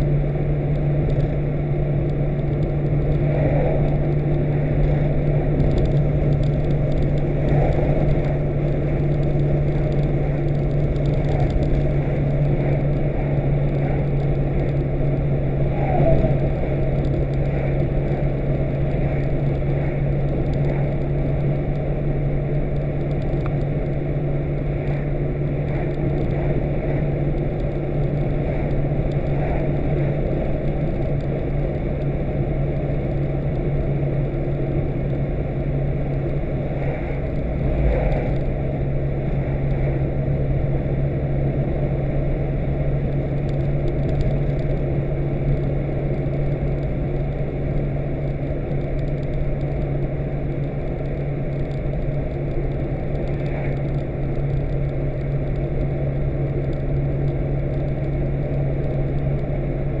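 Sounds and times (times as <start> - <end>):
car engine drone: 0.0 - 60.0
road noise: 0.0 - 60.0.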